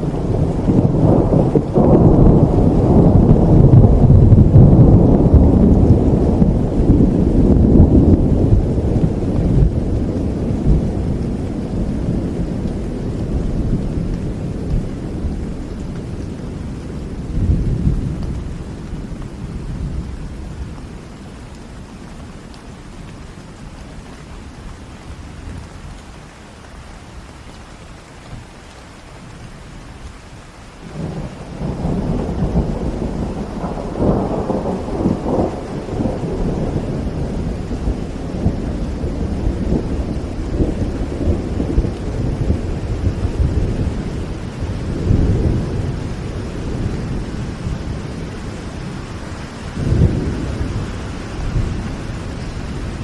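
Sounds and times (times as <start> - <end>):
rolling thunder: 0.0 - 21.1, 30.8 - 53.0
steady rain: 0.0 - 53.0.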